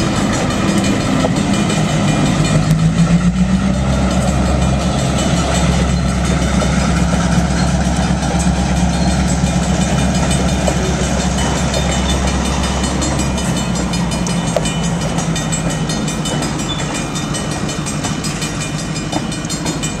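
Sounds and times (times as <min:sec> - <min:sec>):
train wheels clicking over rails: 0:00.0 - 0:20.0.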